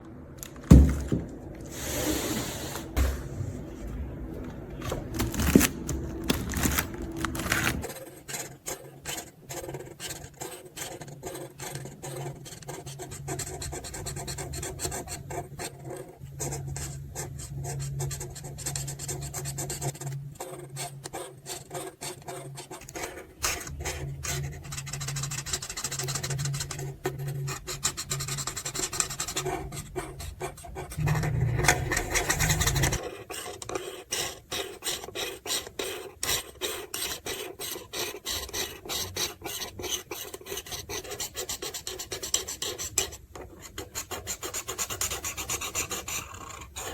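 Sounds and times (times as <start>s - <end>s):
marker scratching on paper: 7.8s - 46.9s.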